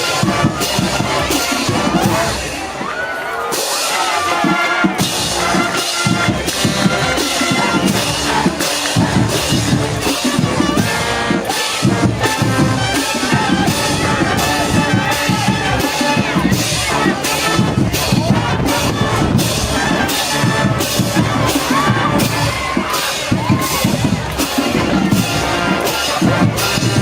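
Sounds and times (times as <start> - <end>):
steady drum beat: 0.0 - 2.9, 3.5 - 27.0
brass horns: 0.0 - 27.0
crowd noise: 0.0 - 27.0.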